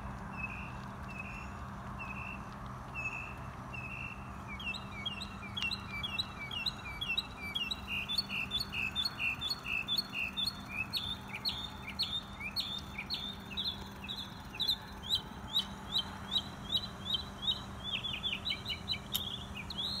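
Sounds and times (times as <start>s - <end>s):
steady low hum: 0.0s - 20.0s
songbird chirping: 0.2s - 20.0s.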